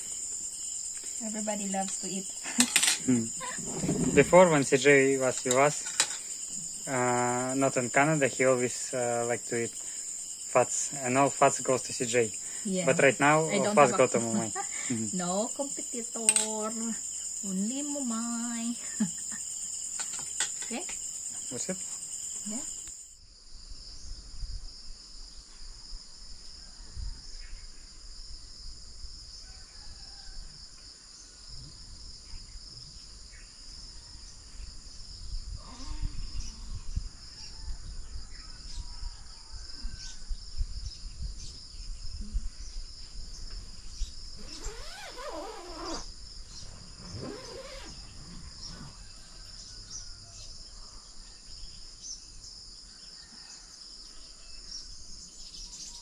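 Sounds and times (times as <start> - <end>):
night insects chirring: 0.0 - 56.0.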